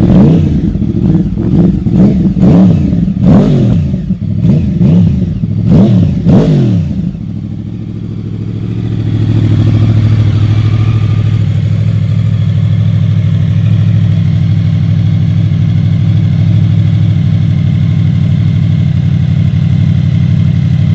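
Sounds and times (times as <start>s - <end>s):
motorcycle engine revving and idling: 0.0s - 20.9s.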